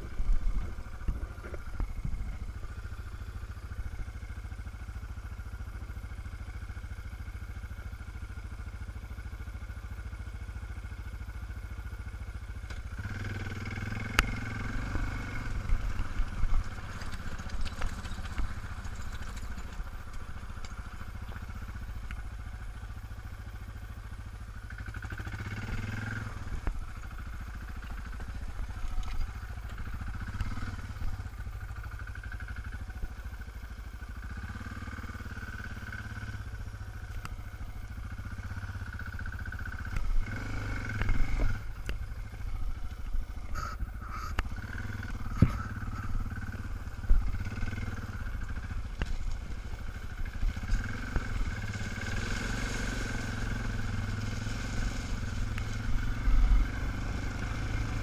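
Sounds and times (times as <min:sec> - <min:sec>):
motorcycle engine at low speed: 0:00.0 - 0:58.0.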